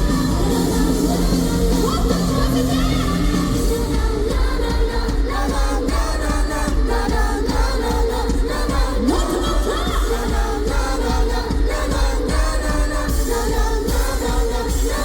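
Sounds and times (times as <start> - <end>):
steady drum beat: 0.0 - 15.0
woman singing: 0.0 - 15.0.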